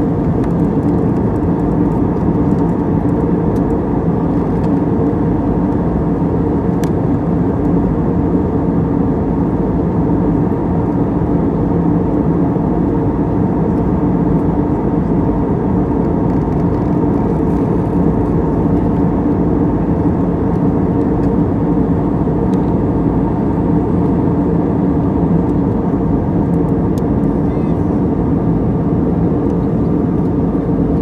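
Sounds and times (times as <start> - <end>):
airliner cabin engine roar: 0.0 - 31.0
faint hum: 0.0 - 31.0.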